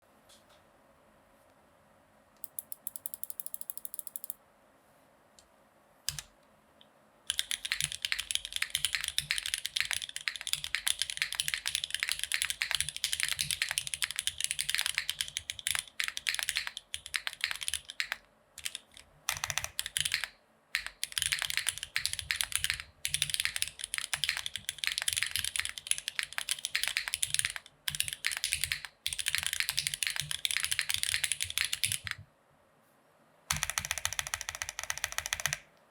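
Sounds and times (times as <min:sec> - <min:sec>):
fast typing on mechanical keyboard: 0:02.4 - 0:04.4, 0:07.3 - 0:32.2, 0:33.5 - 0:35.7.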